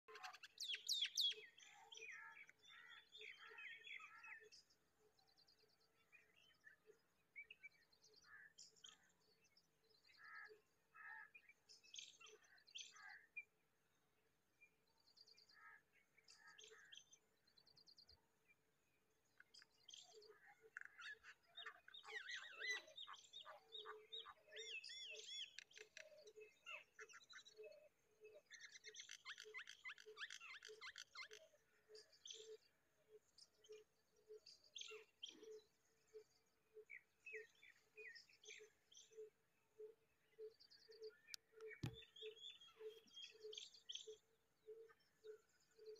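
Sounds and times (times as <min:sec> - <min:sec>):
small birds chirping and twittering: 0:00.0 - 0:45.9.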